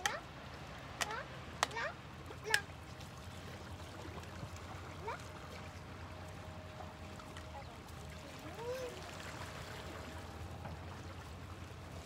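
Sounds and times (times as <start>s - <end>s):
water lapping on rocks: 0.0s - 12.0s.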